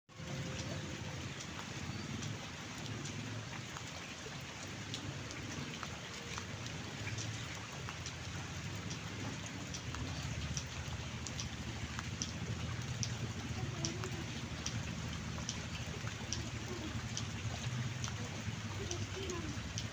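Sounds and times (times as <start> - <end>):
rain falling: 0.1 - 19.9.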